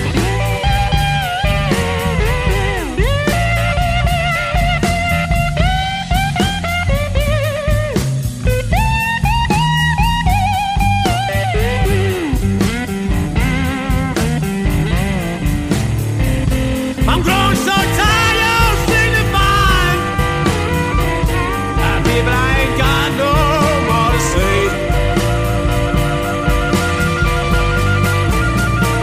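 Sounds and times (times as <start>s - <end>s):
bass and steady beat: 0.0s - 29.0s
blues lead guitar: 0.0s - 29.0s.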